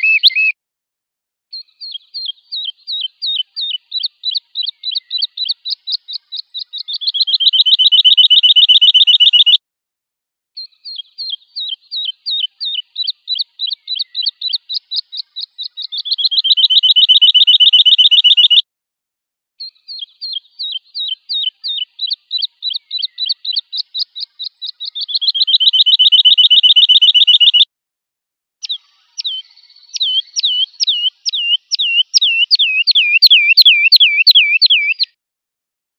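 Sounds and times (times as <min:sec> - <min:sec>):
lark song: 0:00.0 - 0:00.6, 0:01.5 - 0:09.6, 0:10.6 - 0:18.6, 0:19.6 - 0:27.7, 0:28.6 - 0:35.2.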